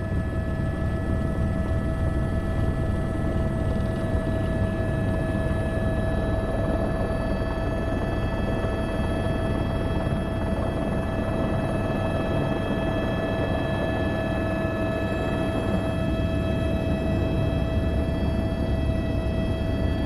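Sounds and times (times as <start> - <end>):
helicopter rotor and engine: 0.0 - 20.0.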